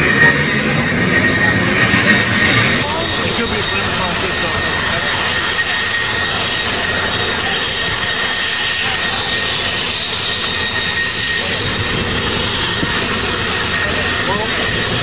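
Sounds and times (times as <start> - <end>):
aircraft turbine engine whine: 0.0 - 15.0.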